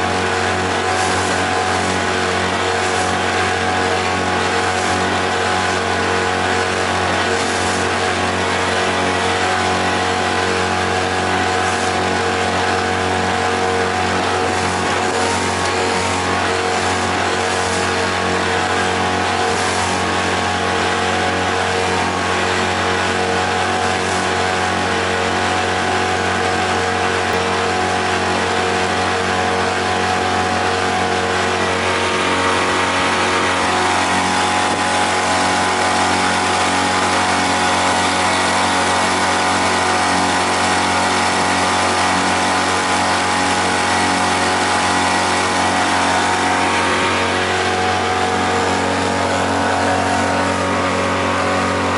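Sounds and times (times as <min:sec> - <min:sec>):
boat rushing hiss: 0:00.0 - 0:51.9
outboard motor running: 0:00.0 - 0:51.9.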